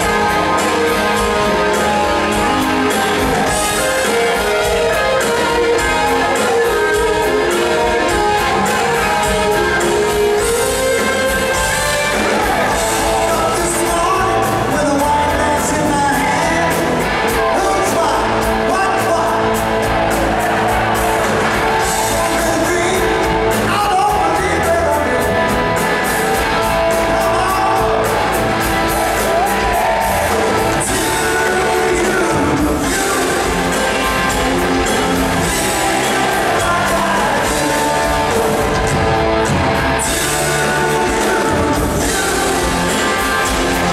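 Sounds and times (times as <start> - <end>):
person singing: 0.0 - 19.6, 21.9 - 25.5, 26.9 - 28.2, 29.3 - 39.0, 40.0 - 43.9
drums: 0.0 - 43.9
electric guitars: 0.0 - 43.9
keyboard: 0.0 - 43.9.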